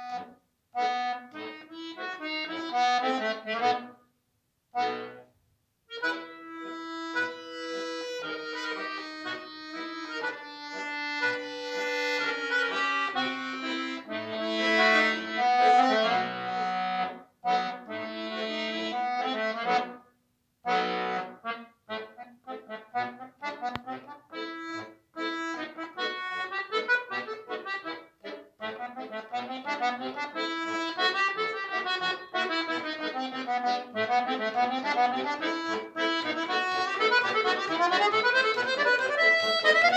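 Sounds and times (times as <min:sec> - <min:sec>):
accordion playing: 0:00.0 - 0:04.1, 0:04.8 - 0:05.3, 0:05.9 - 0:39.9.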